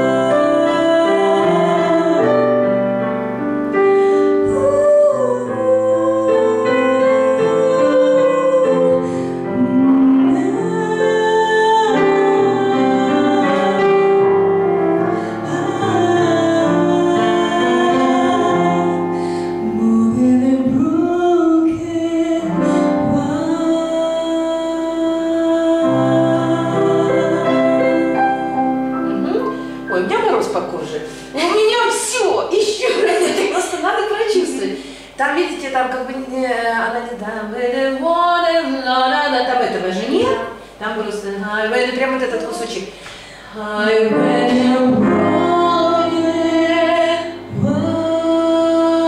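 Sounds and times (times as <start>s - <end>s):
woman singing: 0.0s - 2.8s, 3.8s - 28.5s, 29.2s - 49.0s
digital piano chords: 0.0s - 35.2s, 42.1s - 49.0s.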